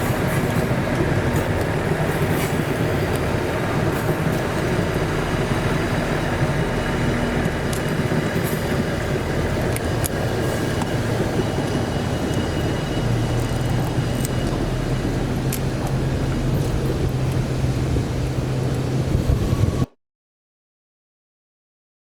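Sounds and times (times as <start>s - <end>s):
wheels clicking on rails: 0.0s - 19.7s
train rumbling by: 0.0s - 20.0s.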